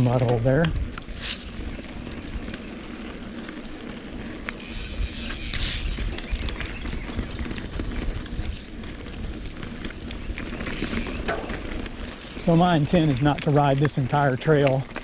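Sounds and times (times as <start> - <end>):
wind buffeting microphone: 0.0 - 14.0
bike clicks and rattles: 0.0 - 15.0
mountain bike rolling on dirt: 0.0 - 15.0.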